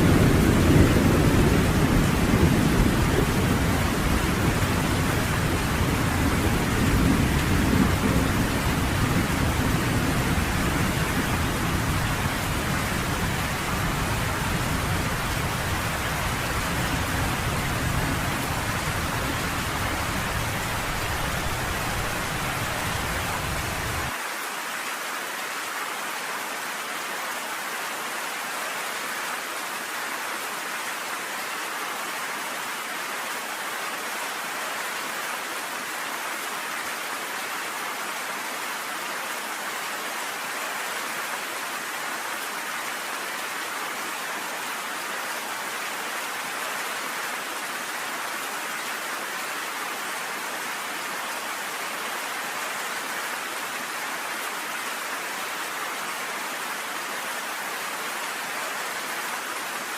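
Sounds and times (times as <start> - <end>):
rain pelting on a porch: 0.0 - 59.9.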